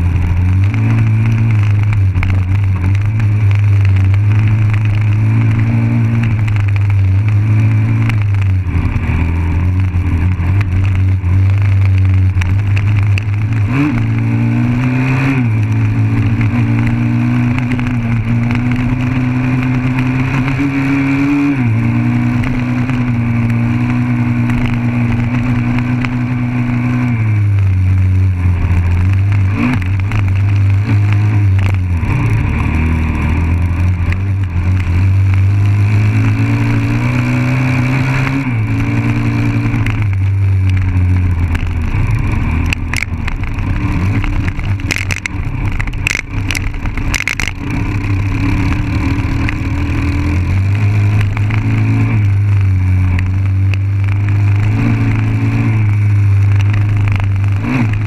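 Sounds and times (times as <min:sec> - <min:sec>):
dirt bike engine running: 0:00.0 - 0:58.0
wind: 0:00.0 - 0:58.0.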